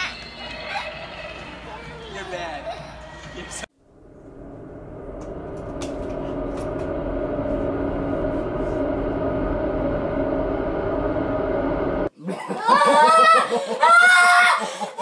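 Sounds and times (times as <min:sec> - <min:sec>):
steady mechanical hum: 0:00.0 - 0:12.1.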